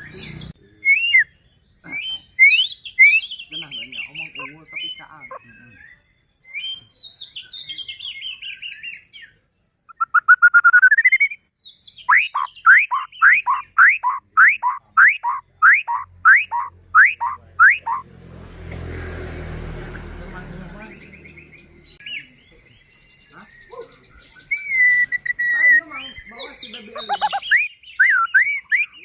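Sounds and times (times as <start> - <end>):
bird singing trills: 0.0 - 18.0, 19.4 - 29.0.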